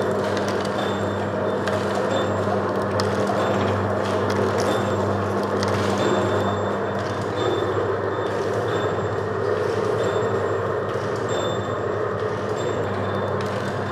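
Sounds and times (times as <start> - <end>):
packing machine motor hum: 0.0 - 13.9.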